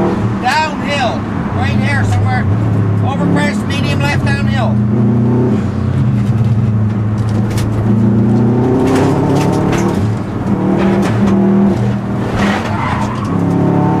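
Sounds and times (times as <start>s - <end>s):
car engine under hard driving: 0.0s - 14.0s.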